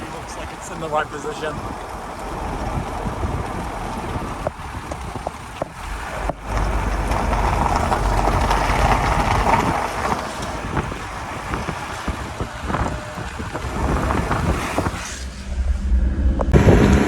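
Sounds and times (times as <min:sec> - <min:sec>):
car engine: 0:00.0 - 0:17.0
road noise: 0:00.0 - 0:17.0
wind rushing over microphone: 0:00.0 - 0:17.0.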